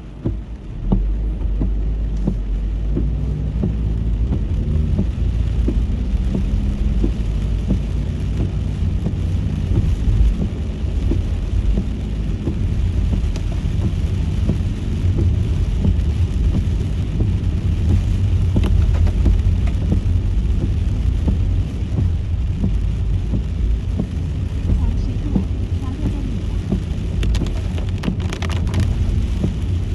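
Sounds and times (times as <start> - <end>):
raindrops tapping: 0.0 - 29.9
road and engine rumble: 0.0 - 29.9.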